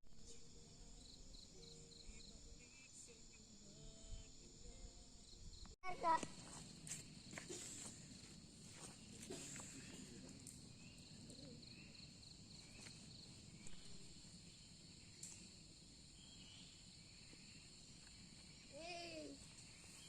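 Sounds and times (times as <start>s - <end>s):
crickets trilling: 0.2s - 20.0s.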